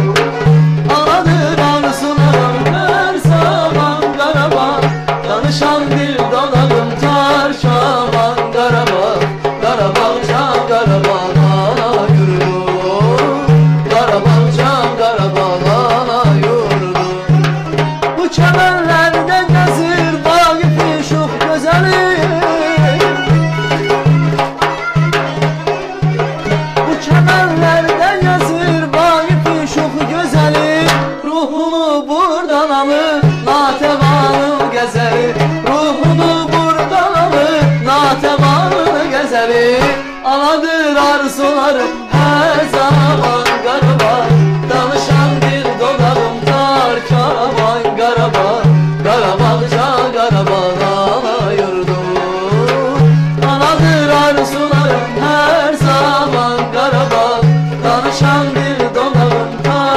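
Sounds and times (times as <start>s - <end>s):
frame drum beat: 0.0s - 31.3s, 33.2s - 40.2s, 41.7s - 59.9s
folk ensemble playing: 0.0s - 31.7s, 32.8s - 59.9s
man singing: 0.0s - 59.9s.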